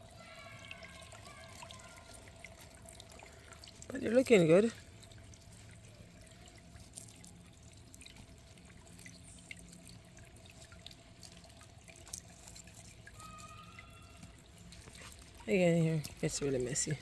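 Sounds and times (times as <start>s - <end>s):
fountain water splashing: 0.0s - 17.0s
water dripping into basin: 0.0s - 17.0s.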